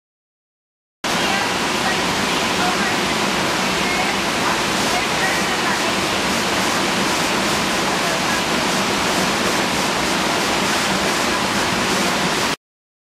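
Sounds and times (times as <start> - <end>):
flowing water rushing: 1.1 - 12.6.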